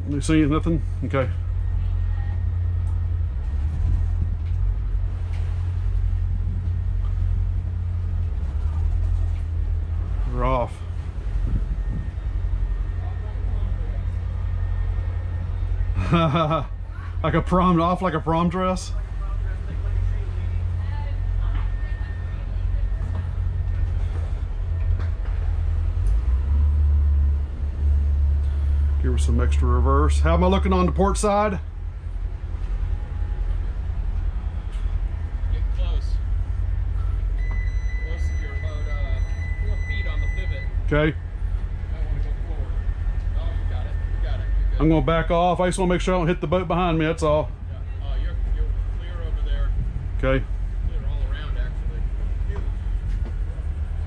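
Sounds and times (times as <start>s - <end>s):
boat engines rumbling: 0.0s - 54.0s.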